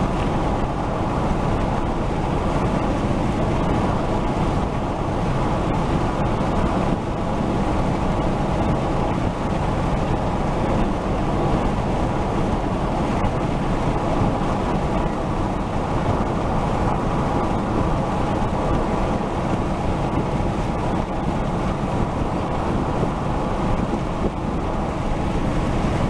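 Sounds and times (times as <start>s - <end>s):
tyre and wind noise in car: 0.0s - 26.0s.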